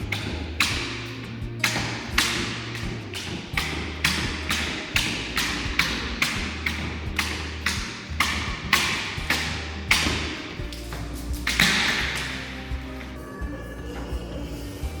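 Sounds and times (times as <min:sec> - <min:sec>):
low bass line: 0:00.0 - 0:15.0.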